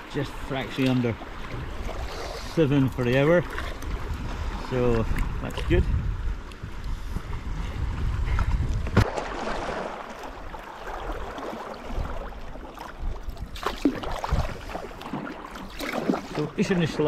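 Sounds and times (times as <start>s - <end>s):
wind buffeting microphone: 0.0s - 15.3s
water splashing along kayak hull: 0.0s - 17.0s.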